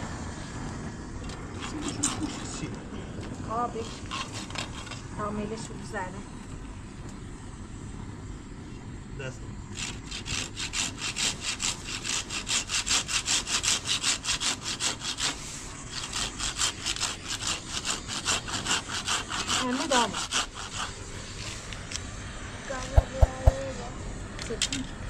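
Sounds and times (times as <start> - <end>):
gas torch burning: 0.0 - 12.8, 14.6 - 25.0.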